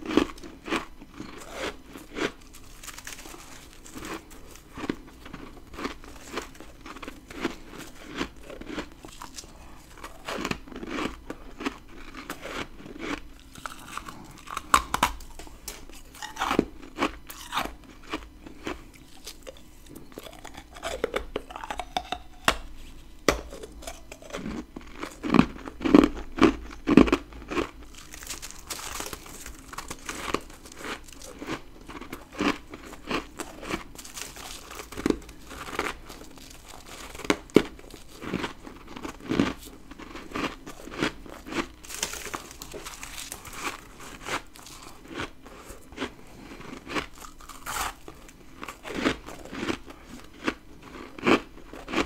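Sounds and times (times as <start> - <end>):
crunchy biting and chewing frost: 0.0 - 52.0.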